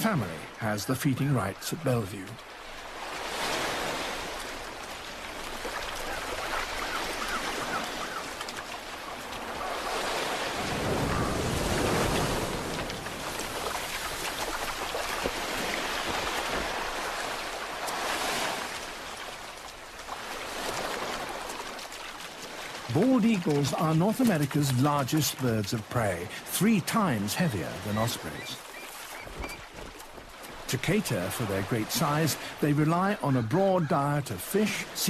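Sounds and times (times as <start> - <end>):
surf washing up gravel beach: 0.0 - 29.1, 29.7 - 35.0.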